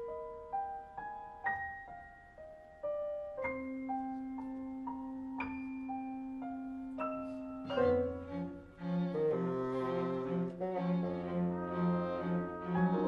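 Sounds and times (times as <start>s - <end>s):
piano notes: 0.0s - 13.0s.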